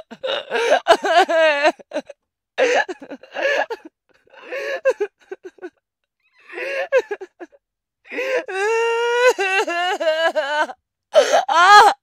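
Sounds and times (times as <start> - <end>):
woman sobbing: 0.0 - 5.8, 6.5 - 12.0.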